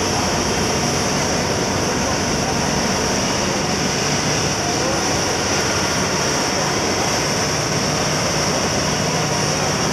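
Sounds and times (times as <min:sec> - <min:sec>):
constant high whine: 0:00.0 - 0:09.9
diesel engine running at high speed: 0:00.0 - 0:09.9.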